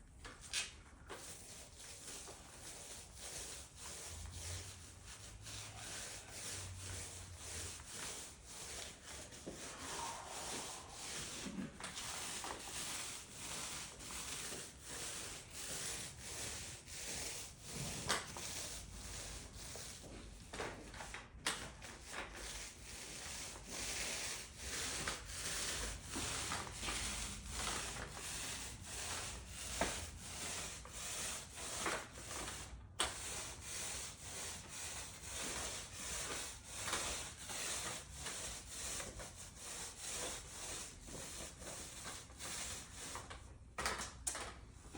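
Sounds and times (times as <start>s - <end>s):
tool rubbing on concrete floor: 0.5s - 20.6s, 21.6s - 43.3s.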